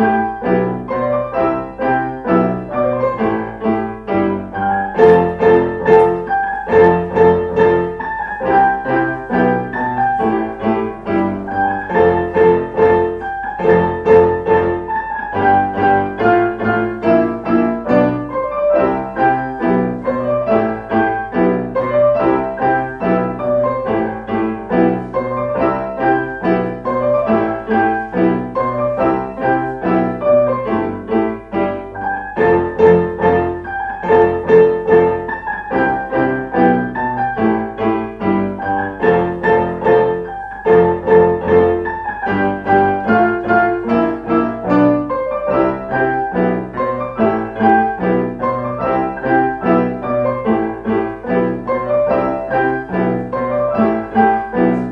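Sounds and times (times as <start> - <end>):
lively piano music: 0.0 - 54.9.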